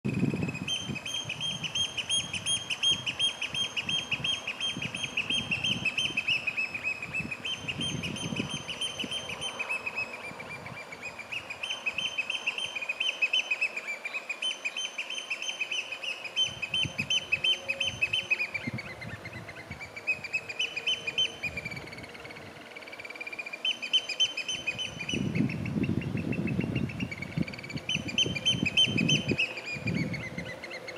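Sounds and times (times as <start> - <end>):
bird rapid piping calls: 0.1 - 30.9
low traffic rumble: 0.1 - 30.9.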